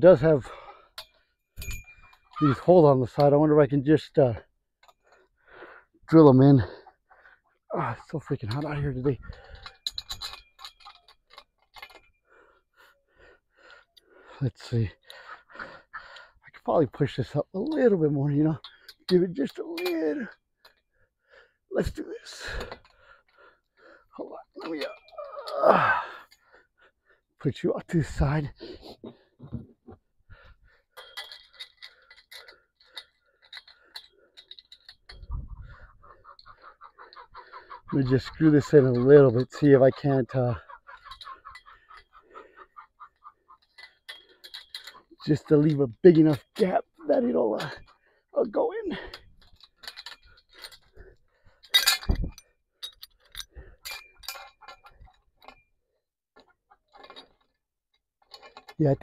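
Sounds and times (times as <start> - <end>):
metal poles clinking: 0.2 - 3.4, 7.8 - 12.4, 14.3 - 21.0, 21.8 - 26.6, 27.8 - 55.8, 56.4 - 57.6, 58.2 - 59.0.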